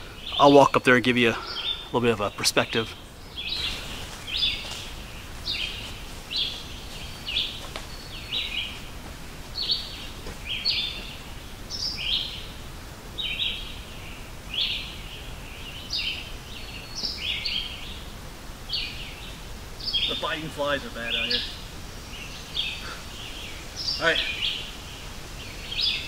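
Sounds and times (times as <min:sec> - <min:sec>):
bird buzzy chirps: 0:00.0 - 0:26.0.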